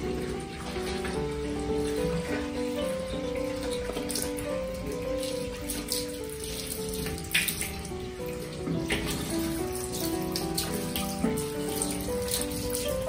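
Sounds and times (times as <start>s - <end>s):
simple background melody: 0.0s - 13.0s
tap water splashing in sink: 0.0s - 13.0s.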